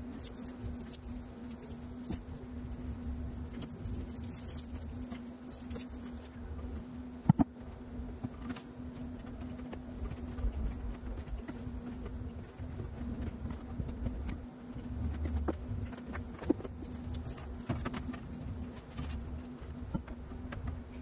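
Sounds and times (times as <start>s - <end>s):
steady low hum: 0.0s - 21.0s
wires and tool clicking and rustling: 0.0s - 21.0s.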